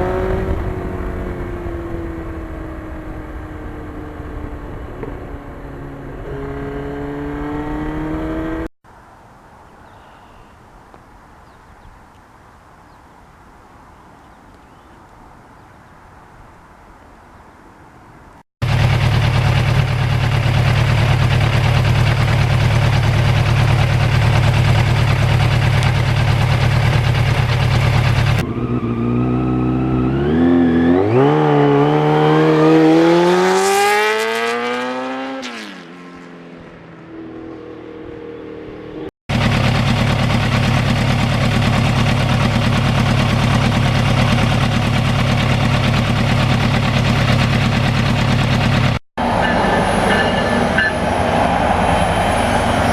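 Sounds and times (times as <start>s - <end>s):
motorcycle engine revving: 0.0s - 8.7s, 18.6s - 52.9s
motorcycle engine and wind rush: 0.0s - 10.6s, 11.4s - 52.9s.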